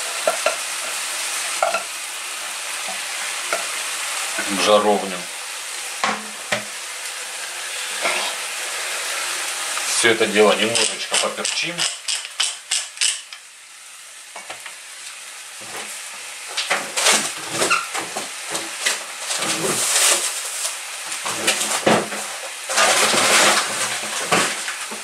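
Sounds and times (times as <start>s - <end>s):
chicken and onion sizzling in pan: 0.0s - 25.0s.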